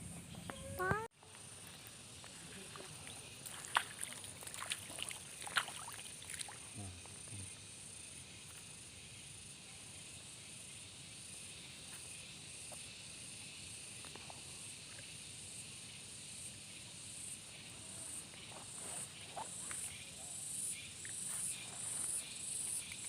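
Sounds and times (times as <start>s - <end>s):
insects chirring: 0.2s - 23.0s.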